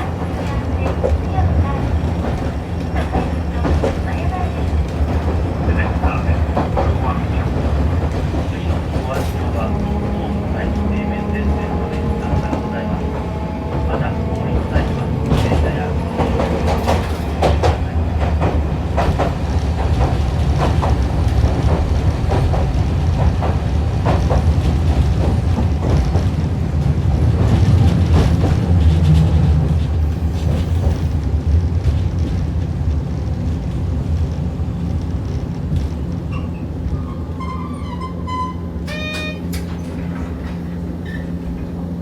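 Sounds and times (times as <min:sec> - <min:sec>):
tram rumbling: 0:00.0 - 0:42.0.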